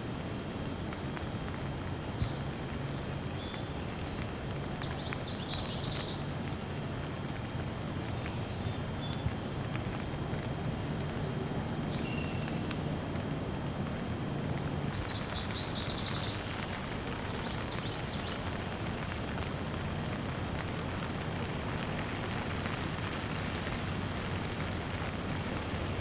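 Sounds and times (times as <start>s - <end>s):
rain falling: 0.1s - 26.0s.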